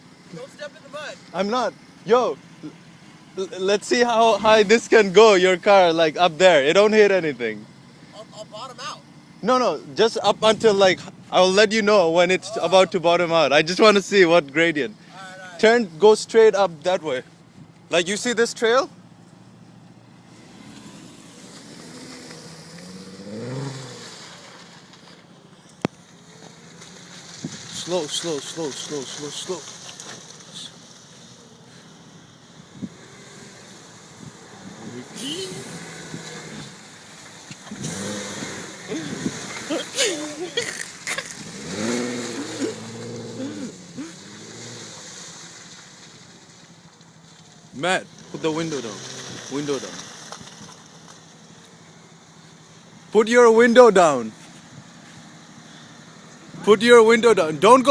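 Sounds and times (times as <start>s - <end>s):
car engine revving: 0.0s - 17.3s, 17.9s - 57.9s.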